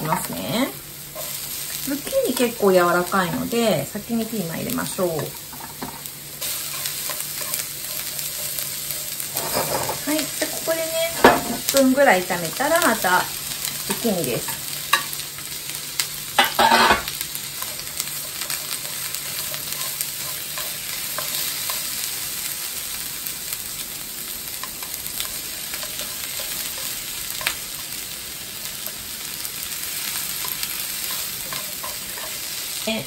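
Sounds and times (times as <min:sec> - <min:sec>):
vegetables sizzling in a frying pan: 0:00.0 - 0:33.0.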